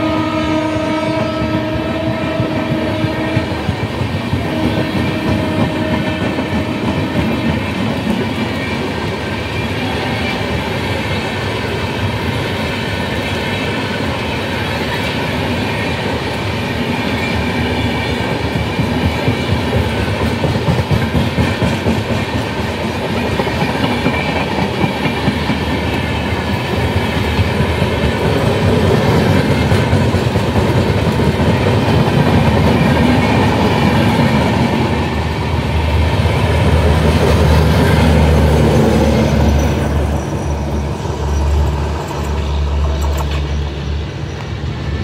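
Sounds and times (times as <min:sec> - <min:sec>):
train wheels clattering on rails: 0:00.8 - 0:45.0.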